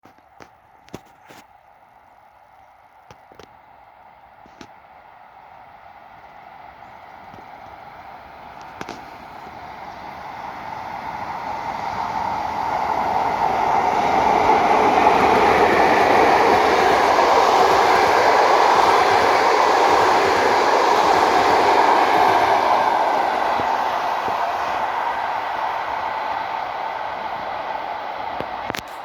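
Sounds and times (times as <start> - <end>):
passenger train rolling past: 1.5 - 29.0
wheel-on-rail noise: 4.3 - 29.0.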